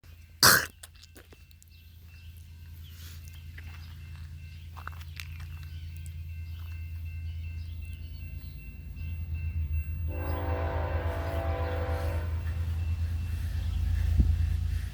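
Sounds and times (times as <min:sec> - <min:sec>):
diesel locomotive rumble: 0:01.2 - 0:14.9.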